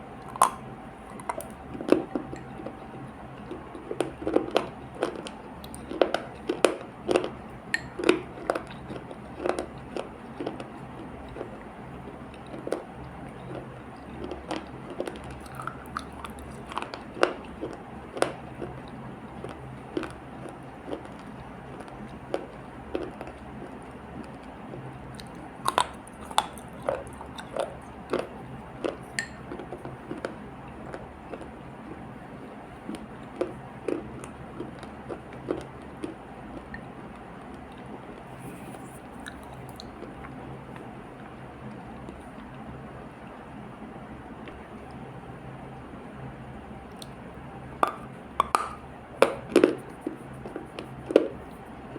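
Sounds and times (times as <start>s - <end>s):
crunchy chewing of dried clay: 0.0s - 43.6s, 46.8s - 51.9s
steady low hum: 0.0s - 51.9s.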